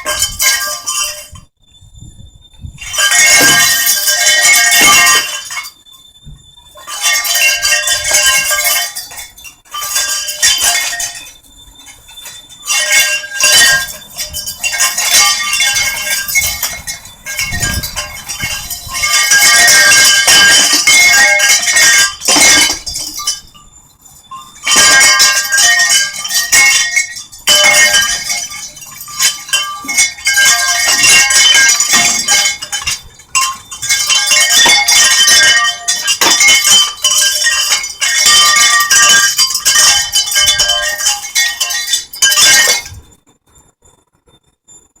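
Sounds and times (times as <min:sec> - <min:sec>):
chimes ringing and clinking: 0:00.0 - 0:01.5, 0:02.6 - 0:43.7.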